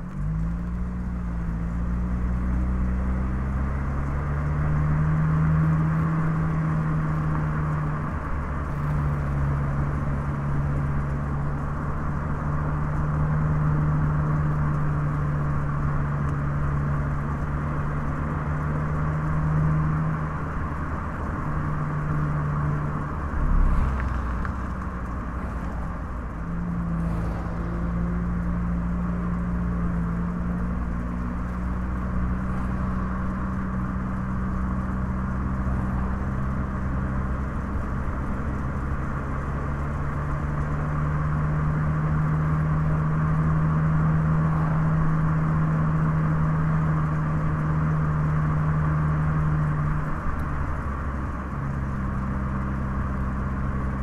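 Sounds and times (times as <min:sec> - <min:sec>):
car engine hum: 0:00.0 - 0:54.0
tyre and road noise: 0:00.0 - 0:54.0.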